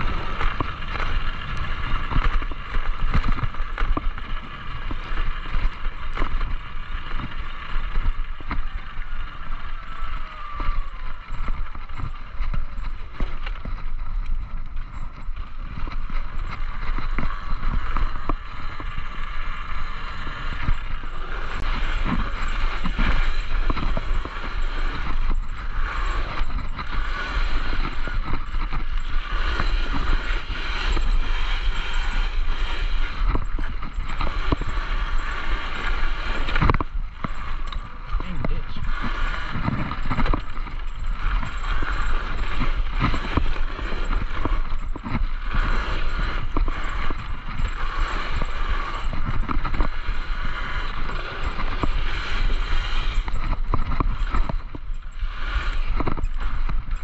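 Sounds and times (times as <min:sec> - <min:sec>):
electric motor whine: 0:00.0 - 0:12.6, 0:15.8 - 0:57.0
bike rattling over bumps: 0:00.0 - 0:57.0.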